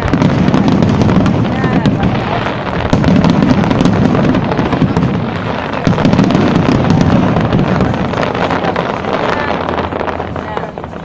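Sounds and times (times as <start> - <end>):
fireworks crackling: 0.0 - 11.0
low rumble of fireworks bangs: 0.0 - 11.0.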